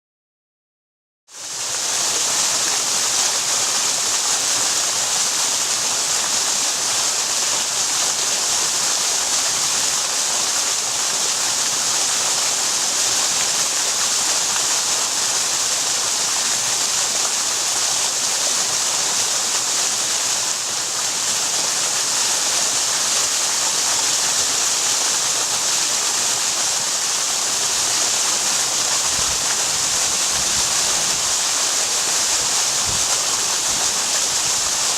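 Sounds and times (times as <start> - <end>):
waterfall rushing: 1.4 - 34.9.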